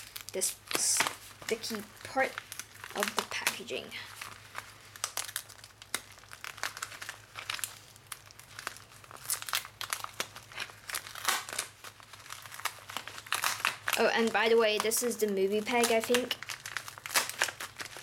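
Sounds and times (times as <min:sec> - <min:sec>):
plastic mailer crinkling: 0:00.0 - 0:18.0.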